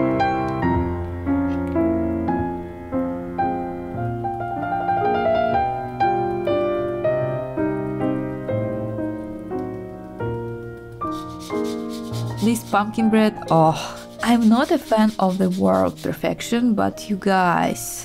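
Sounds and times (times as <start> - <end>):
gentle piano melody: 0.0 - 18.0.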